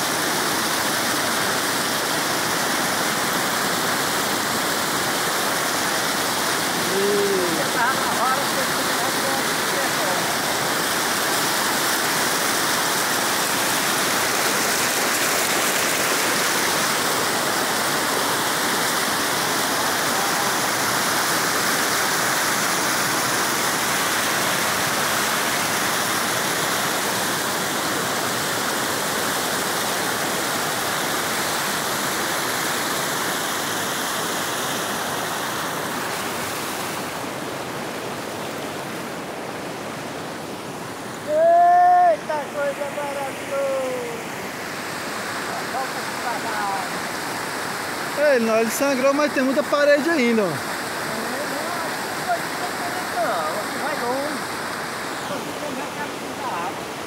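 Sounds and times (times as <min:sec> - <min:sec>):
floodwater rushing over spillway: 0:00.0 - 0:57.0.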